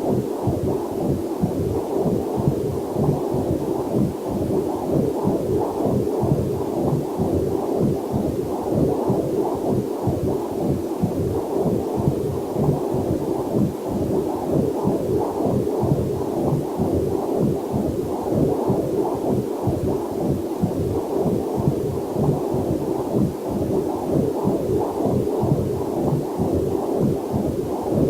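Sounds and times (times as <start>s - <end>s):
fetal heartbeat whooshing pulses: 0.0s - 28.0s.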